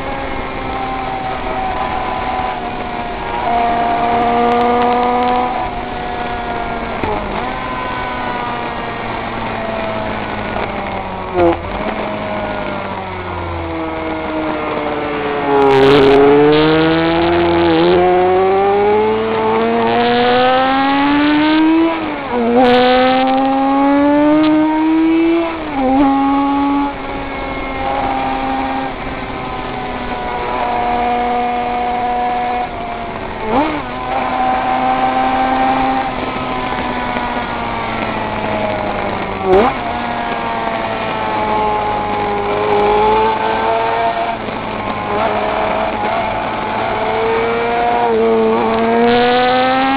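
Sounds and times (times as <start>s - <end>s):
racing motorcycle engine revving: 0.0s - 49.9s.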